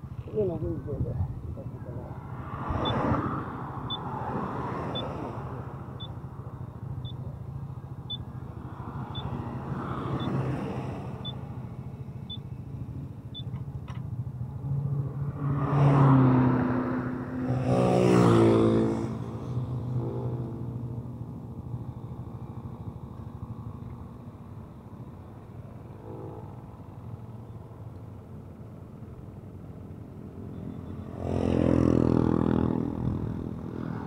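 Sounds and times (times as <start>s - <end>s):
vehicles passing loudly: 0.0s - 34.0s.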